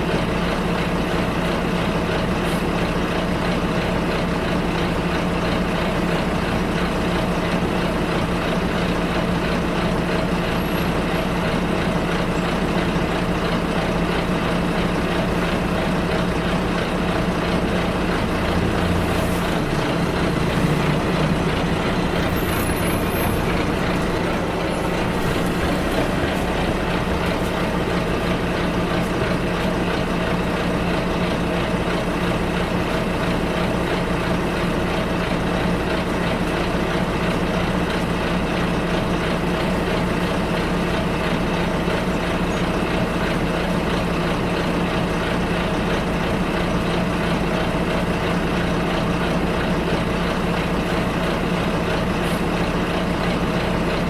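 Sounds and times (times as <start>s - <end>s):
bus engine running: 0.0s - 54.0s
road noise: 0.0s - 54.0s.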